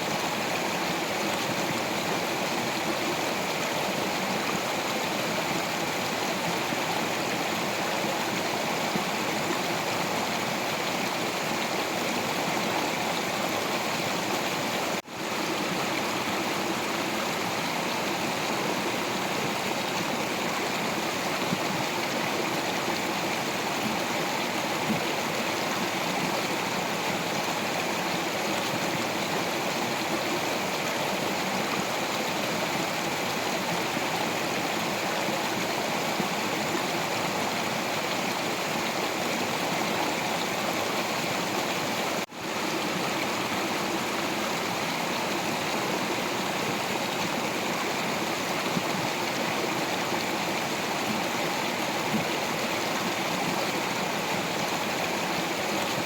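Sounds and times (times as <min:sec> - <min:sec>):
stream water over rocks: 0:00.0 - 0:56.0.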